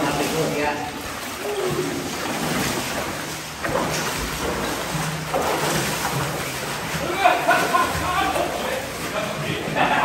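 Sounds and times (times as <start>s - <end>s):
water sloshing as person wades: 0.0s - 10.0s.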